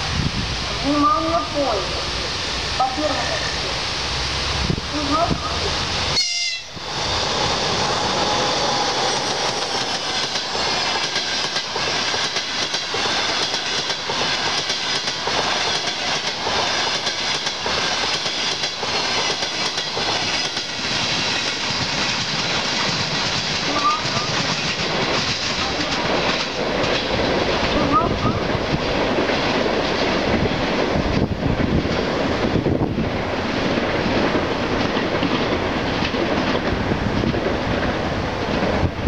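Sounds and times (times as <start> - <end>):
train wheels clattering: 6.9 - 38.9.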